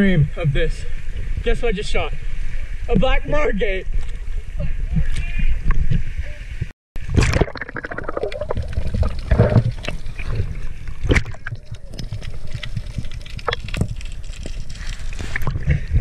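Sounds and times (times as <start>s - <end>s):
muffled underwater rush: 0.8s - 16.0s.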